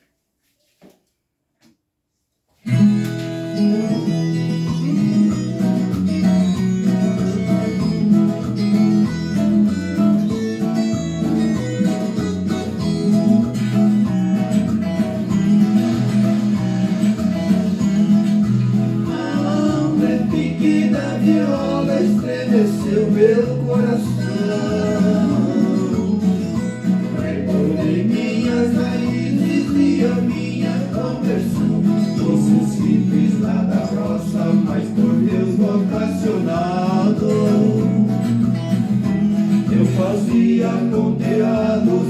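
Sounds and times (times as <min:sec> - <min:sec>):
country music with plucked strings: 0:02.7 - 0:42.0.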